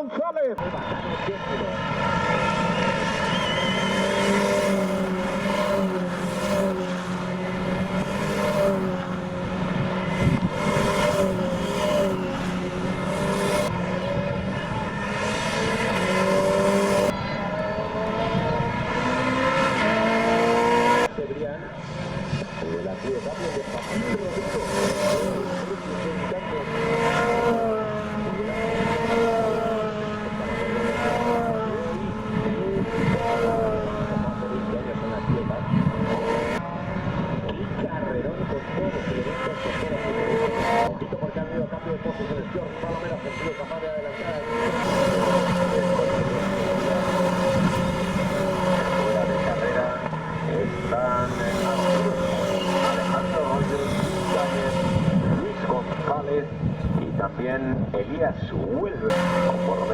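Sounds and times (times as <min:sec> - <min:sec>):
race car engines running: 0:00.0 - 0:59.9.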